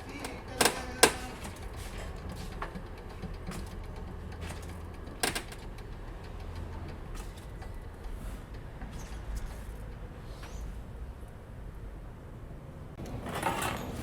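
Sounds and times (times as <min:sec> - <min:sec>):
machinery low rumble: 0:00.0 - 0:13.0.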